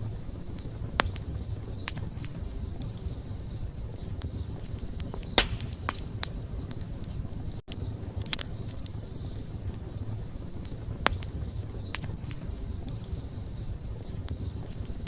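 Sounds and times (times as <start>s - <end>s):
campfire flame rumbling: 0.0s - 15.0s
fire crackling and popping: 0.0s - 15.0s.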